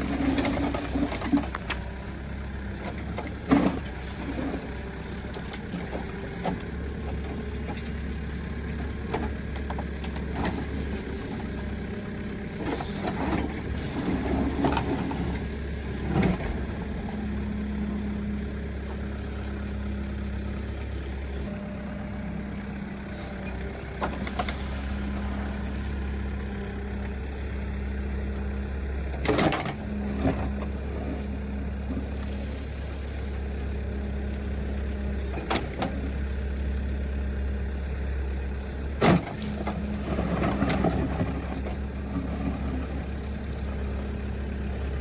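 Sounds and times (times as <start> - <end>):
heavy machinery diesel engine: 0.0 - 45.0.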